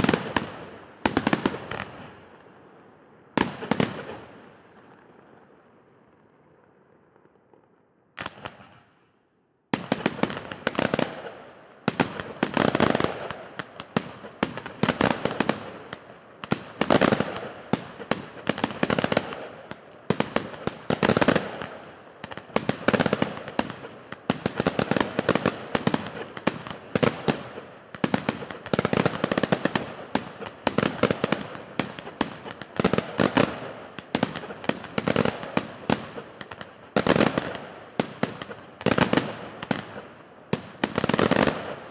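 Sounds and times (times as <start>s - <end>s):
fireworks banging and crackling: 0.0s - 2.5s, 3.4s - 9.0s, 9.8s - 41.9s.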